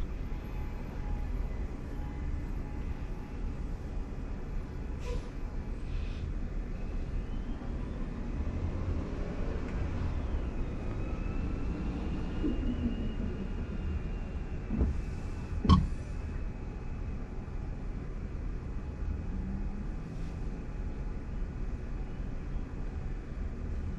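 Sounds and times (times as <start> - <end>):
road and tyre rumble in car: 0.0 - 23.9.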